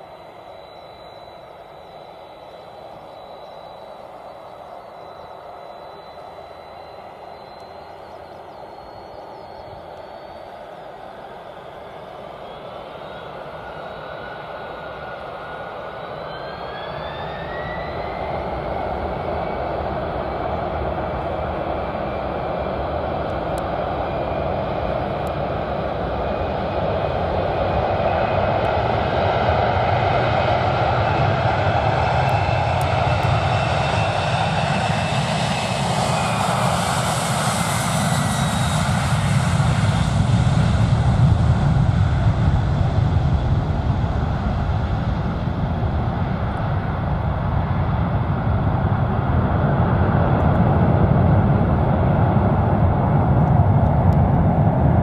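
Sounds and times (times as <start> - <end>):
jet airliner taking off: 0.0 - 55.0.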